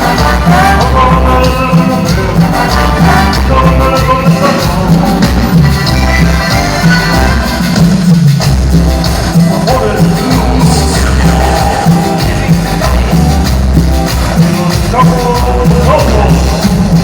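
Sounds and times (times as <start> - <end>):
band playing latin dance music: 0.0 - 17.0
heavy bass beat: 0.0 - 17.0.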